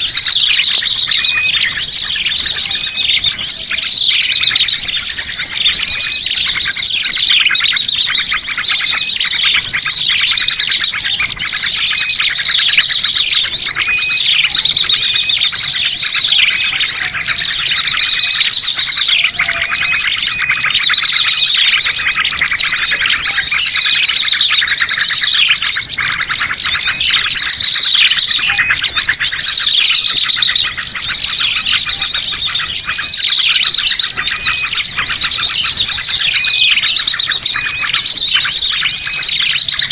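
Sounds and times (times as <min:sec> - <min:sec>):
songbirds twittering and chirping: 0:00.0 - 0:39.9.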